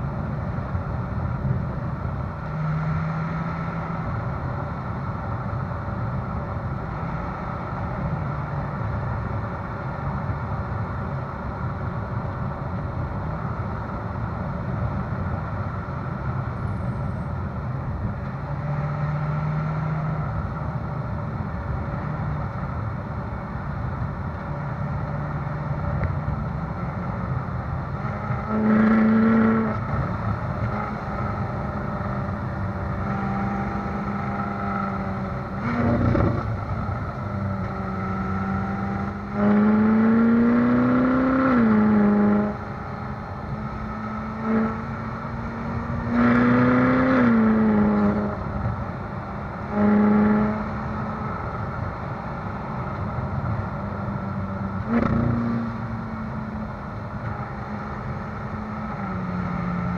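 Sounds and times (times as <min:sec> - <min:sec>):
car exhaust cruising: 0:00.0 - 0:59.9
tyres rumbling on rough road: 0:00.0 - 0:59.9.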